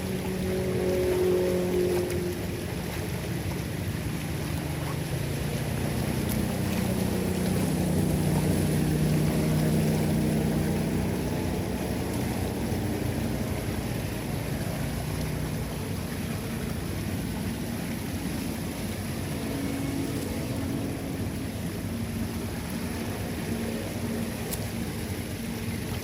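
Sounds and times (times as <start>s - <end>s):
water pouring into a drain: 0.0s - 26.0s.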